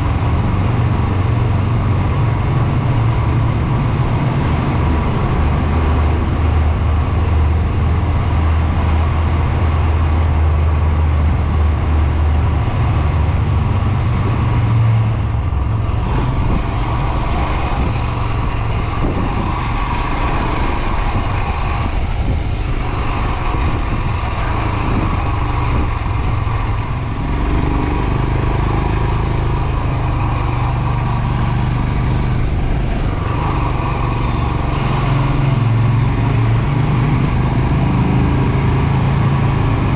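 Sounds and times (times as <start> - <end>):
riding wind rush: 0.0 - 39.9.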